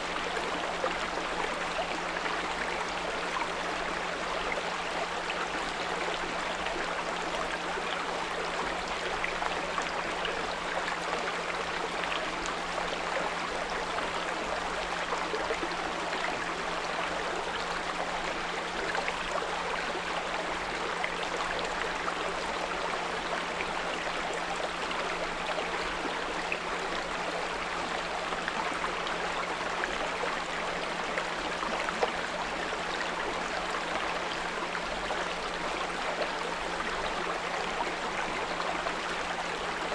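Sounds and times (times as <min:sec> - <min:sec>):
brook flowing and burbling: 0:00.0 - 0:39.9.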